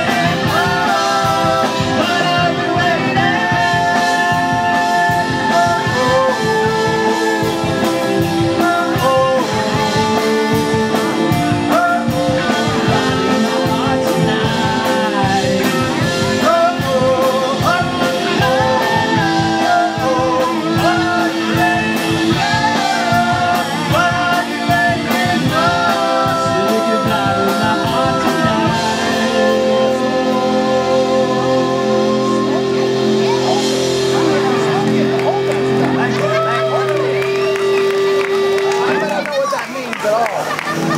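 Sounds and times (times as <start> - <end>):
drumming: 0.0 - 40.9
live rock band playing: 0.0 - 40.9.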